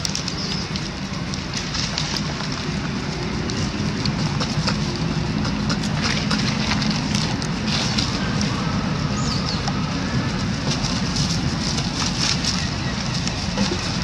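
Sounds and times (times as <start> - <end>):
dry leaves crackling and rustling: 0.0 - 14.0
low outdoor rumble: 0.0 - 14.0.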